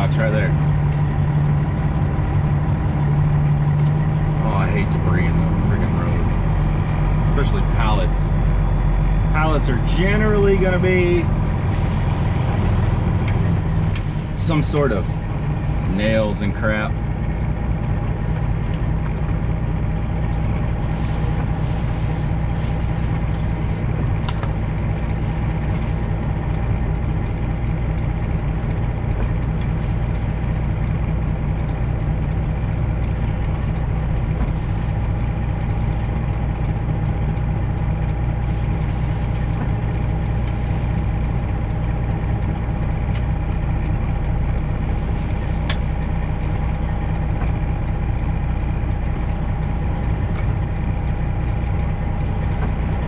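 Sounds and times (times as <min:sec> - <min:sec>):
truck engine drone inside cab: 0:00.0 - 0:53.0.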